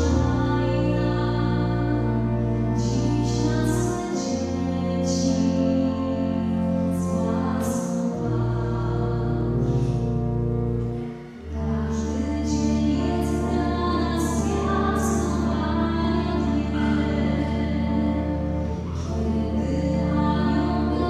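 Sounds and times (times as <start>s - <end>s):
woman singing: 0.0s - 10.1s, 11.4s - 21.0s
pipe organ chords: 0.0s - 21.0s.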